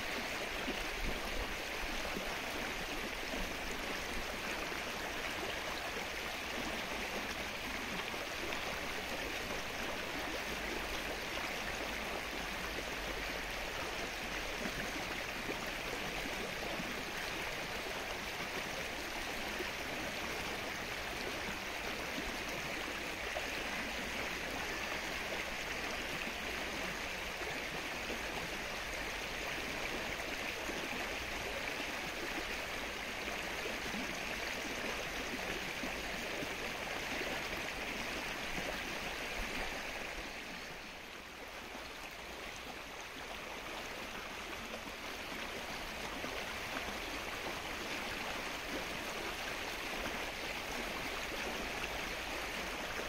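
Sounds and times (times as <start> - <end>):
rain falling on water: 0.0 - 53.0.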